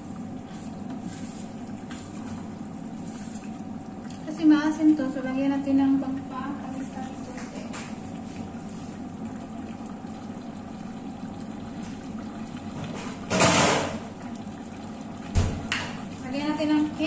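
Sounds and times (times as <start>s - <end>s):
low kitchen background: 0.0s - 17.0s.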